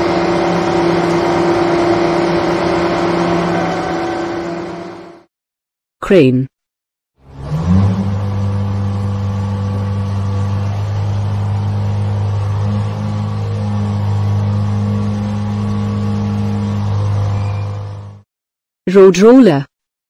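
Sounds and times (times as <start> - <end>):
crane engine starting and running: 0.0 - 5.3, 7.2 - 18.3.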